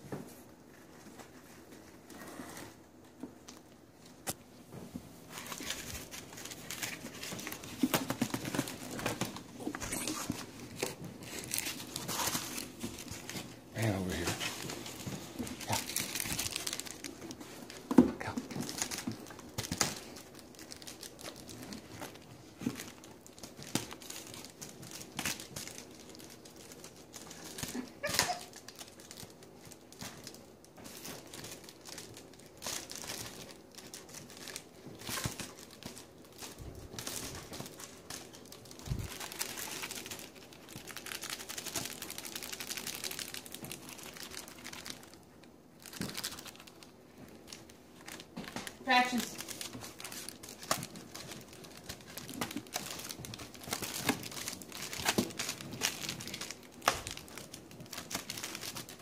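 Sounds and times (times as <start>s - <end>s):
bubble wrap crinkling: 5.0s - 59.0s.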